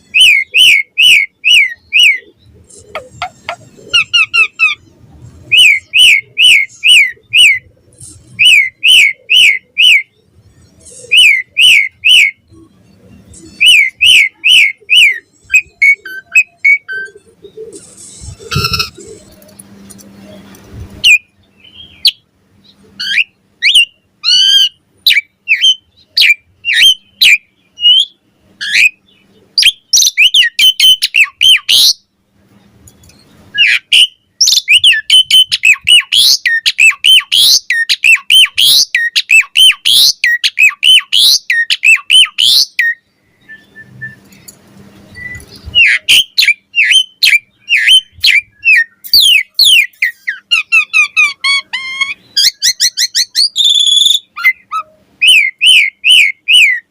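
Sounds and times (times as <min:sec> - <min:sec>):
starling singing whistles and chatter: 0:00.0 - 0:56.9.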